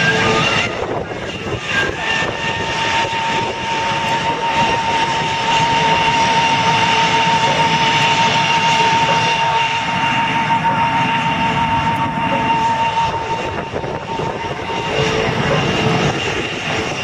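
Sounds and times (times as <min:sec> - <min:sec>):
high jet engine whine: 0:00.0 - 0:17.0
jet engine rush: 0:00.0 - 0:17.0.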